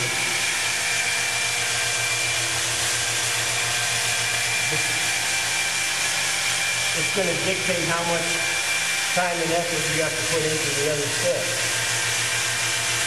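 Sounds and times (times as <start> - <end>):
polisher motor whine: 0.0 - 13.0.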